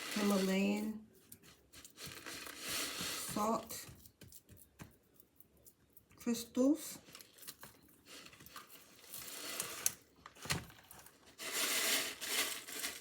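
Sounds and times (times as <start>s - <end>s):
hands crinkling and rustling: 0.0s - 6.3s, 7.0s - 13.0s.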